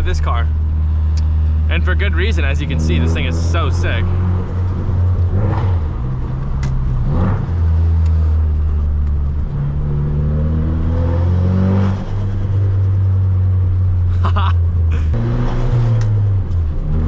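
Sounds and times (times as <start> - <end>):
car engine droning under throttle: 0.0 - 17.0.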